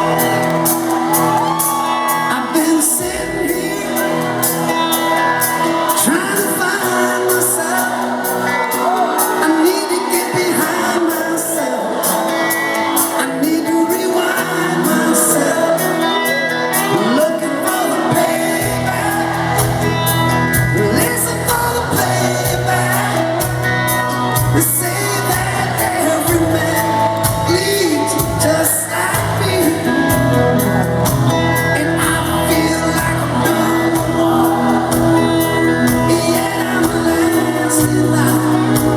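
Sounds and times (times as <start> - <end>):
bass guitar: 0.0 - 9.7, 10.3 - 38.9
live rock band playing: 0.0 - 38.9
people singing: 0.0 - 38.9.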